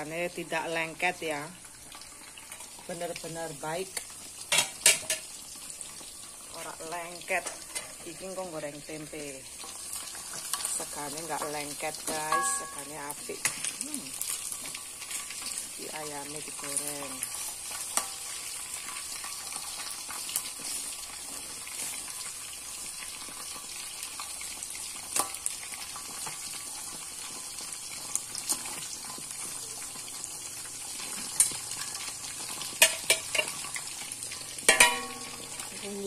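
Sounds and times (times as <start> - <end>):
chicken deep-frying in oil: 0.0 - 36.0.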